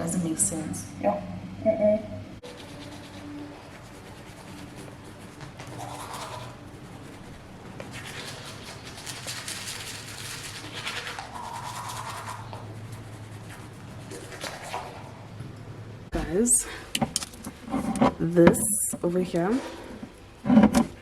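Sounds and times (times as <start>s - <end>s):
brushing back and forth: 2.4s - 16.4s, 17.0s - 21.0s.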